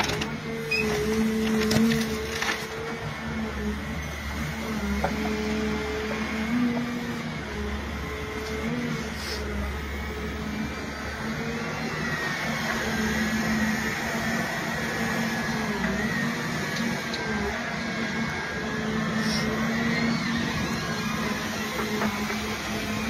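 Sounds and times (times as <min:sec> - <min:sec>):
diesel engine running: 0:00.0 - 0:23.0
high hydraulic whine: 0:00.0 - 0:23.0.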